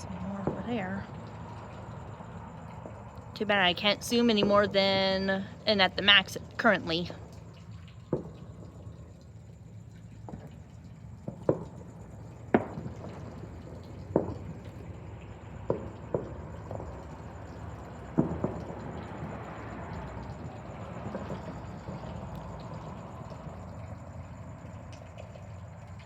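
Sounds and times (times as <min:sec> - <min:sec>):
distant fireworks banging: 0:00.0 - 0:09.3, 0:10.0 - 0:26.0.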